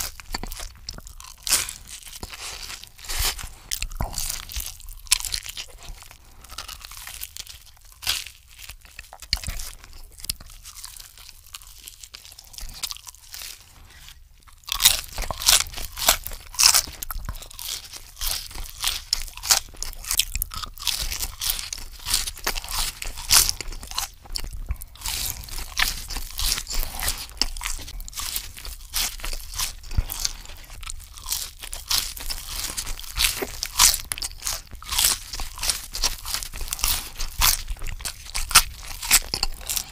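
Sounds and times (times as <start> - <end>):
chewing sandwich: 0.0 - 39.9
crunching fries: 0.0 - 39.9.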